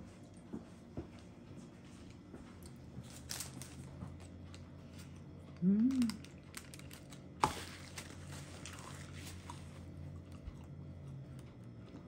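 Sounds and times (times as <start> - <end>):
low steady hum: 0.0 - 12.0
biting and chewing food: 2.0 - 12.0.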